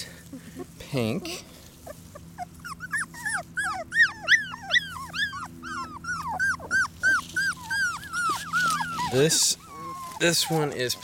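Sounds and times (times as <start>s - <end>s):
puppy whimpering: 0.3s - 11.0s.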